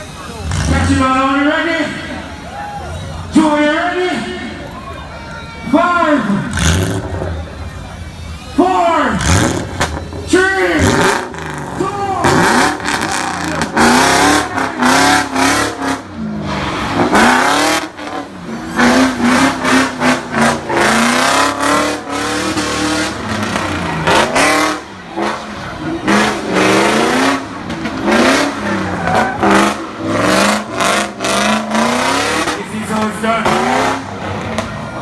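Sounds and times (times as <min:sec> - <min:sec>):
car engine revving hard: 0:00.3 - 0:01.6, 0:06.3 - 0:07.5, 0:09.0 - 0:35.0.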